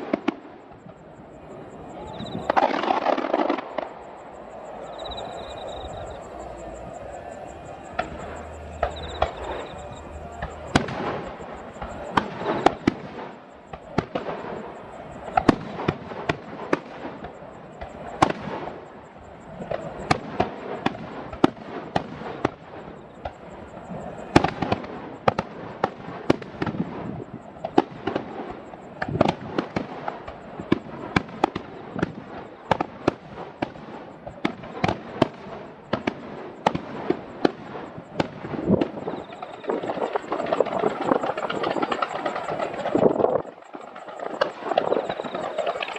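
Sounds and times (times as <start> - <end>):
fireworks bursting: 0.0 - 45.9
fireworks rumbling and crackle: 0.0 - 45.9.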